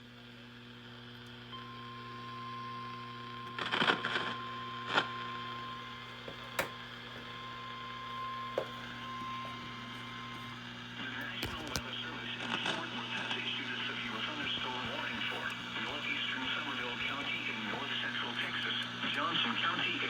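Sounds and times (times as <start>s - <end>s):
low steady hum: 1.5s - 19.8s
static crackles: 3.6s - 20.0s.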